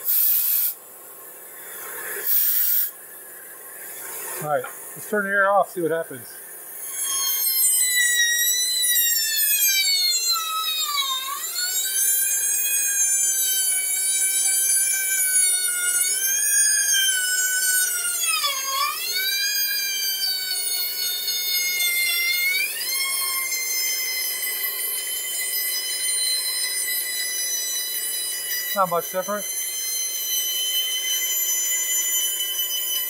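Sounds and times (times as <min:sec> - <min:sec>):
bandsaw whining through wood: 0:01.7 - 0:03.0, 0:06.6 - 0:33.0.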